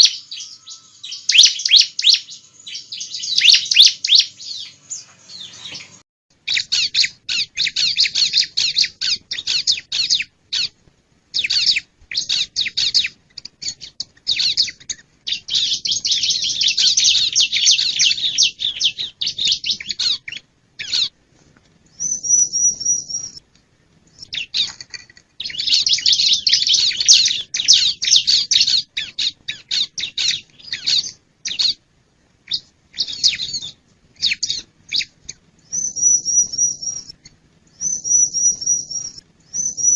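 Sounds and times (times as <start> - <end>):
bird chattering song: 0.0 - 10.8, 11.4 - 21.1, 25.4 - 31.8, 32.5 - 37.2, 37.8 - 39.9.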